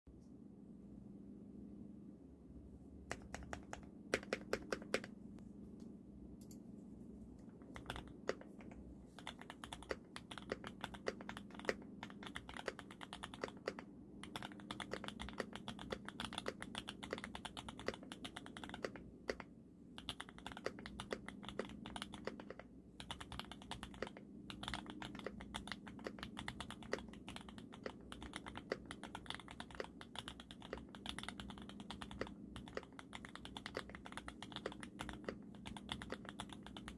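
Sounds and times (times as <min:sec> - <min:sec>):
typing on mechanical keyboard: 0:03.1 - 0:05.2, 0:07.4 - 0:36.9.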